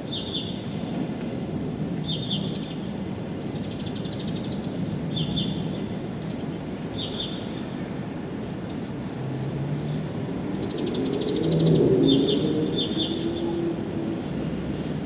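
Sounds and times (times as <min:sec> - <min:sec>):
songbird singing with trill: 0:00.0 - 0:00.7, 0:01.9 - 0:02.8, 0:03.6 - 0:07.6, 0:08.3 - 0:14.9.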